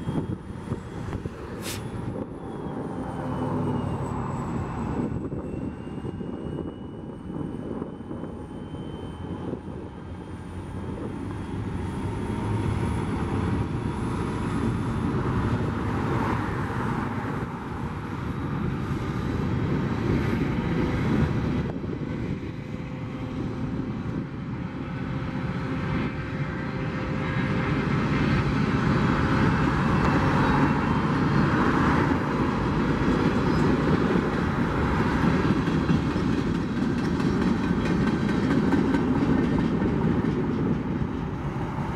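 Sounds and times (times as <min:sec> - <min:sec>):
diesel locomotive engine rumble: 0:00.0 - 0:41.9
high engine whine: 0:00.0 - 0:41.9.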